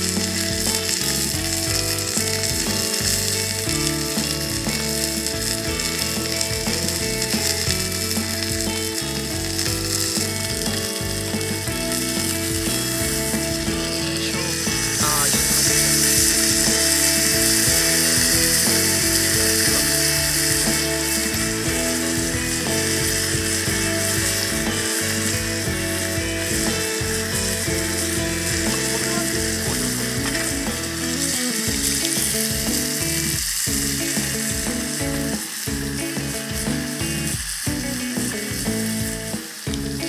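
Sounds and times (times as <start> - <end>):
meat sizzling in a skillet: 0.0 - 40.0.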